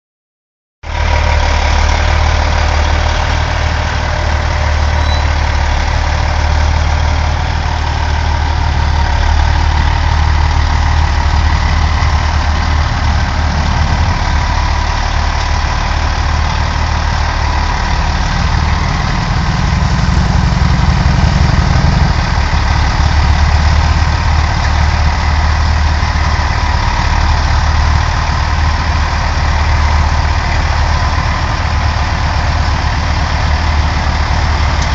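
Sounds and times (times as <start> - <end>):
diesel engine idling: 0.8 - 34.9.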